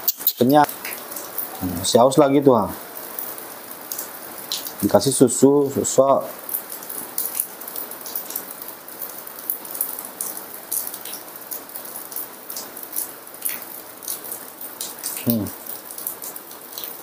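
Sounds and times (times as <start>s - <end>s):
heavy rain falling: 0.4s - 17.0s.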